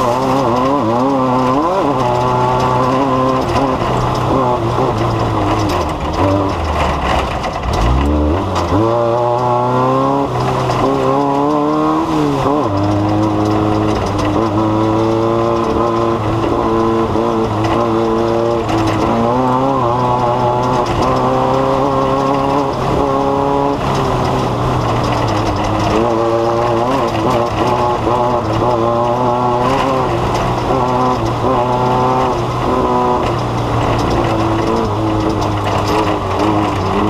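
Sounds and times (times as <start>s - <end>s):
race vehicle engine revving: 0.0s - 37.0s.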